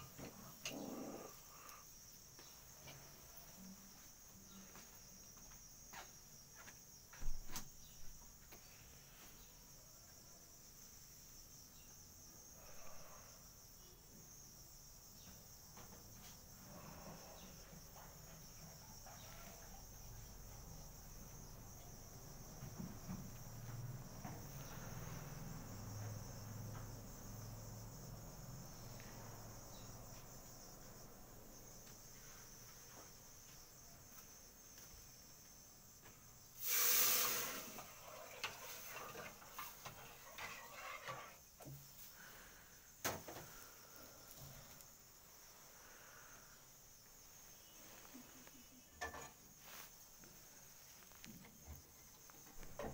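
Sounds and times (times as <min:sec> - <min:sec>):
crickets trilling: 0:00.0 - 0:52.9.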